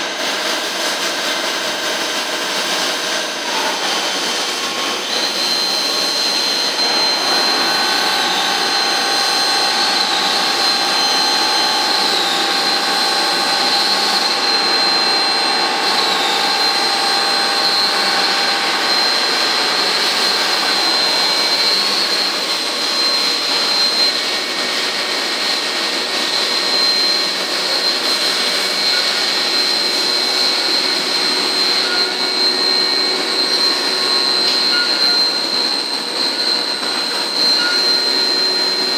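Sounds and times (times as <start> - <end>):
lathe high-pitched whine: 0.0 - 38.9
machine noise: 0.0 - 38.9.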